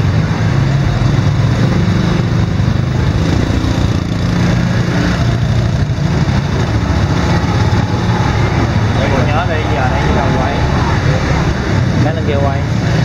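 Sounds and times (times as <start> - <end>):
other scooter engines: 0.0 - 13.0
scooter engine running: 0.0 - 13.0.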